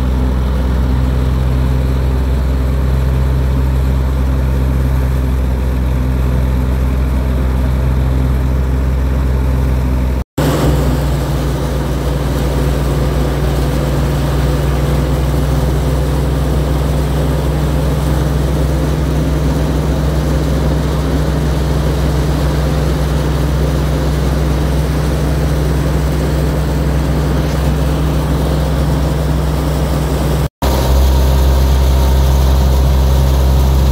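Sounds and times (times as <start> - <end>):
threshing machine running: 0.0 - 33.9.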